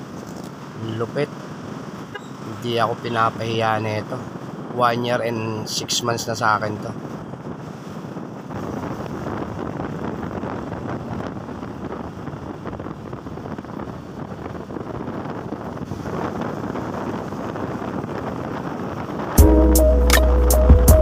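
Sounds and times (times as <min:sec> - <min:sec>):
motorcycle road and engine noise: 0:00.0 - 0:21.0
wind rushing over microphone: 0:00.0 - 0:21.0.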